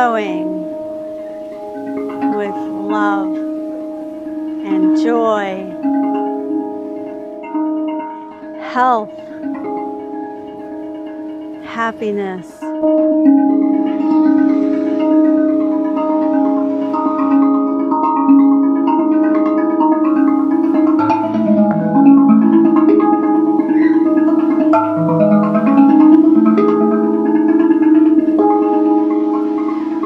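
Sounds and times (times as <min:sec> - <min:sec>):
steel tongue drum notes ringing: 0:00.0 - 0:30.0.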